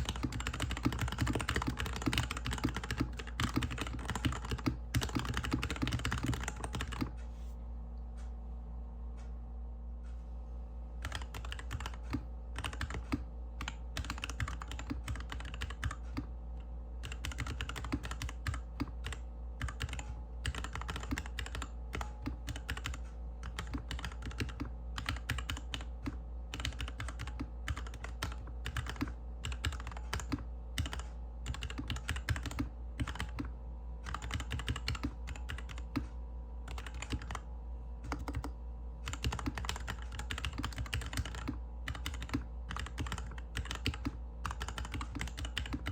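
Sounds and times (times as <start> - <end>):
mechanical keyboard typing: 0.0 - 7.2, 11.0 - 16.3, 17.0 - 36.1, 36.7 - 45.9
steady low hum: 0.0 - 45.9.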